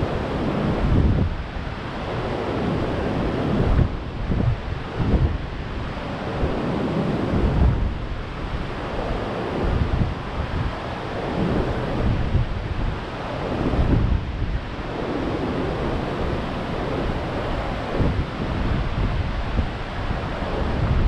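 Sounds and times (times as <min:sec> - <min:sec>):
surf breaking on beach: 0:00.0 - 0:21.0
wind buffeting microphone: 0:00.0 - 0:21.0.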